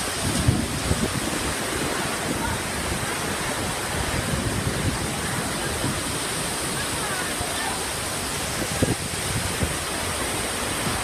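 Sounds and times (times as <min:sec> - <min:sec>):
heavy rain: 0:00.0 - 0:11.0
strong storm wind: 0:00.0 - 0:11.0
wind buffeting microphone: 0:00.0 - 0:11.0.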